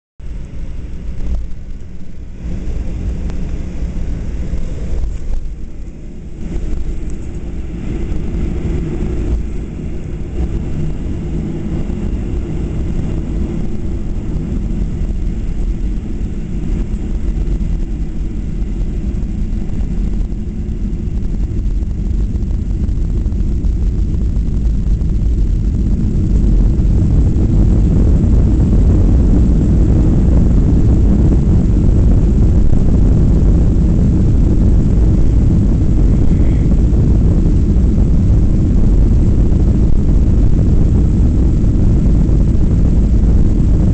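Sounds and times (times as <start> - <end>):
jet engine cabin rumble: 0.2 - 43.9.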